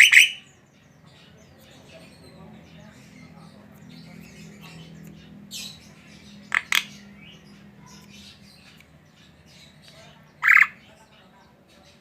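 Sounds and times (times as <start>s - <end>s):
starling harsh calls: 0.0s - 0.6s, 2.1s - 11.2s.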